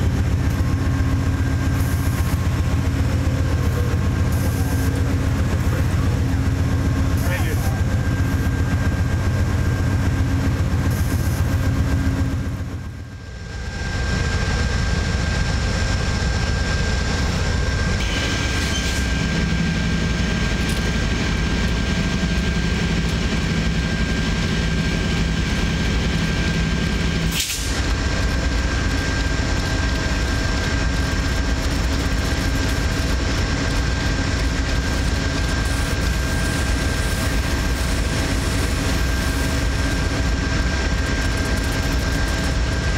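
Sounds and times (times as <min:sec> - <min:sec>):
locomotive engine idling: 0:00.0 - 0:18.0, 0:19.0 - 0:42.9
high whine: 0:00.0 - 0:42.9.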